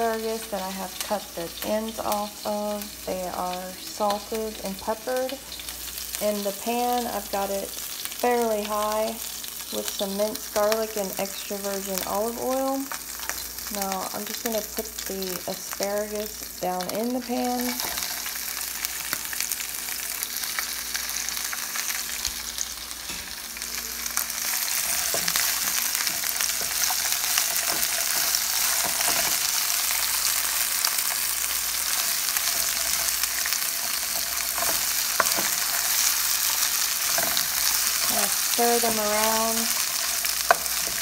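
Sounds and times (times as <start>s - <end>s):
vegetables sizzling in a frying pan: 0.0s - 41.0s.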